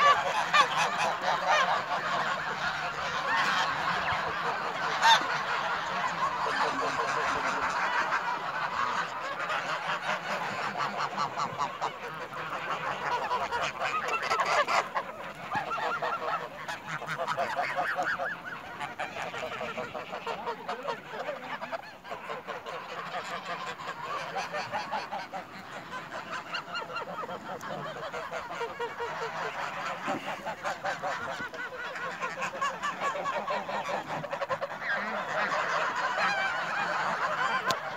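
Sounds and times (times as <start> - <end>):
geese honking: 0.0 - 37.9.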